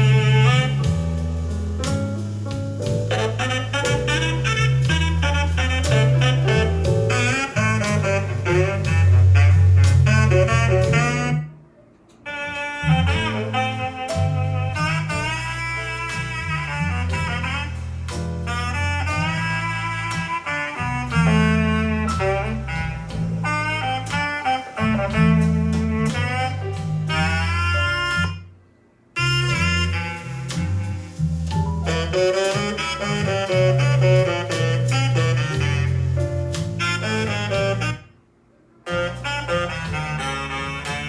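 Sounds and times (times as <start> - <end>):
saxophone jazz with heavy bass: 0.0 - 41.0.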